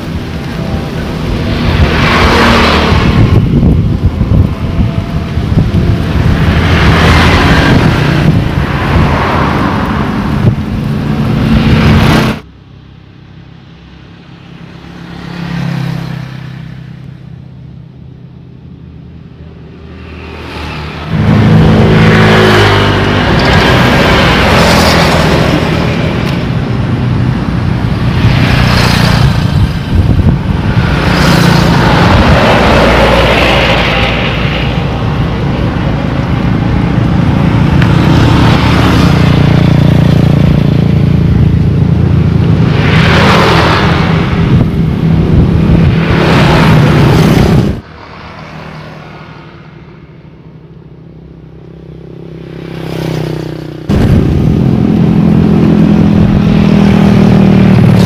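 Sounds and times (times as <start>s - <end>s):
vehicles passing by: 0.0s - 58.0s.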